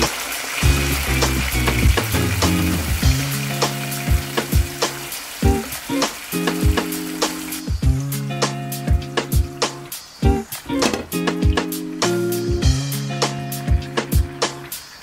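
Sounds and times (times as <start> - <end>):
background music with steady beat: 0.0 - 15.0
chicken sizzling in hot oil: 0.0 - 15.0.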